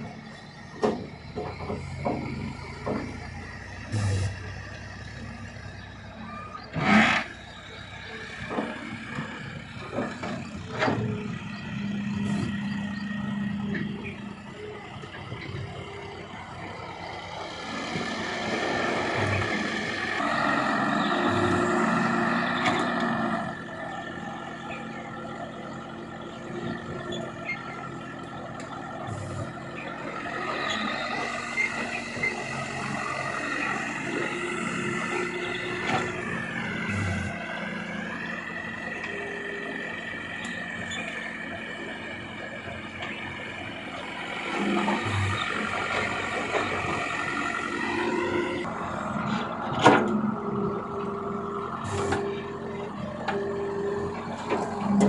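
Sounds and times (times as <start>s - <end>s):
excavator engine and hydraulics: 0.0s - 55.0s.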